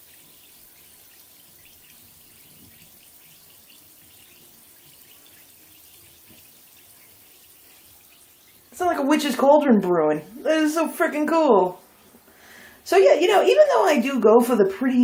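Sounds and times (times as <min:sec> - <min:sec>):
bath bomb fizzing: 0:00.0 - 0:14.1.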